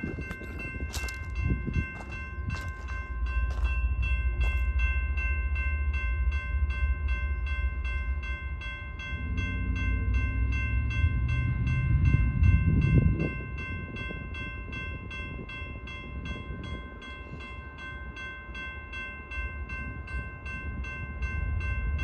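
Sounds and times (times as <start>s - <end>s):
pulsing ringing tone: 0.0s - 22.0s
train rumbling past: 0.0s - 22.0s.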